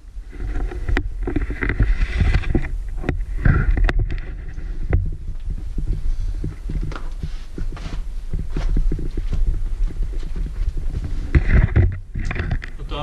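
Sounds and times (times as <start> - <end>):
low rumble on microphone: 0.0 - 13.0
footsteps on stone and rubble: 0.4 - 13.0.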